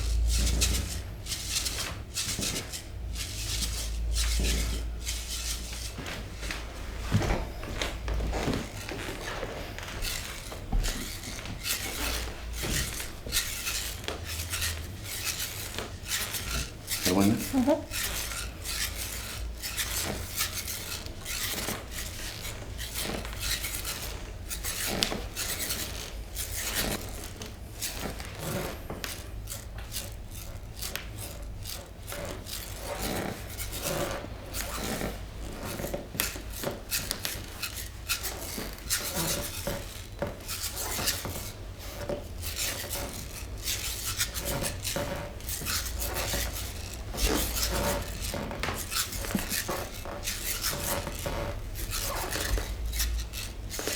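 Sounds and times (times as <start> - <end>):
hands rubbing skin and cloth: 0.0 - 29.3, 32.8 - 53.9.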